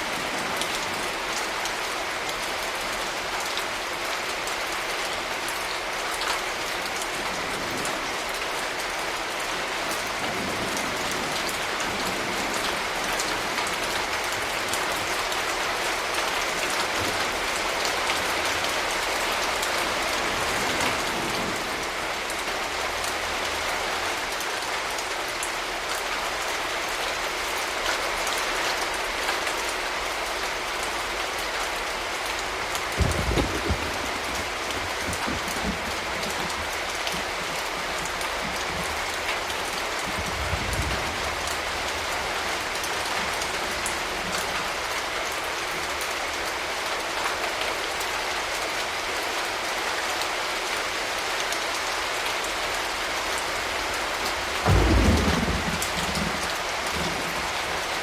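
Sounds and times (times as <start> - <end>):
raindrops ticking on surface: 0.0 - 58.0
steady rain hiss: 0.0 - 58.0.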